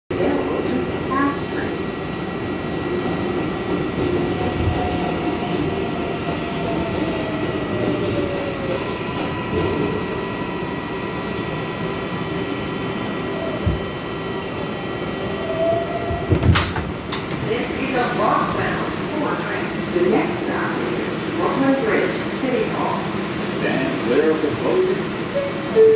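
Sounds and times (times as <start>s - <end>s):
subway wheels rumbling on rail: 0.1s - 25.9s.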